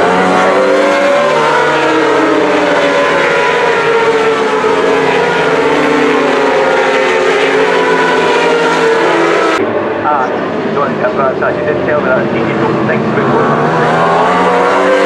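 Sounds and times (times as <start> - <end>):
superbike engines revving: 0.0 - 15.0.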